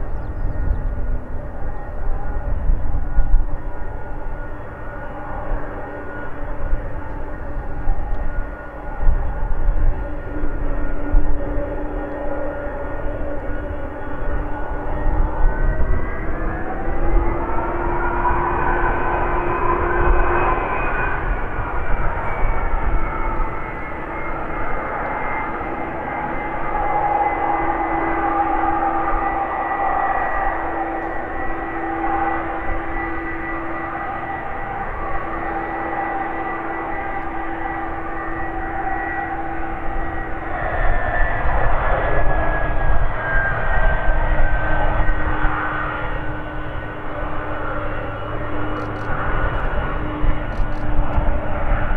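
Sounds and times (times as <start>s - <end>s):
high steady whining tones: 0.0s - 51.9s
jet engines running at low power: 0.0s - 51.9s.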